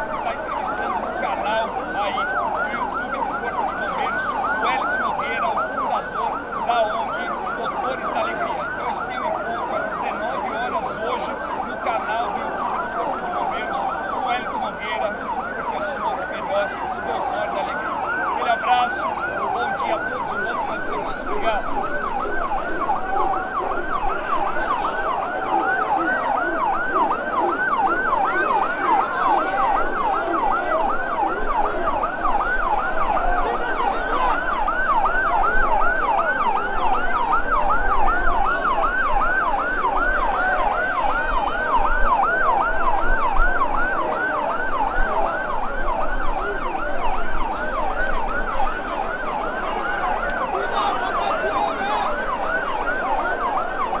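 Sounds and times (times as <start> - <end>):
fire engine siren yelping: 0.0 - 54.0.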